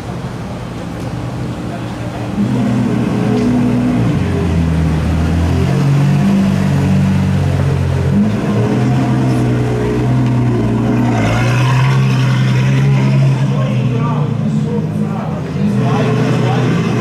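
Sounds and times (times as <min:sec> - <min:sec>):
car engine running at low revs: 0:00.6 - 0:17.0.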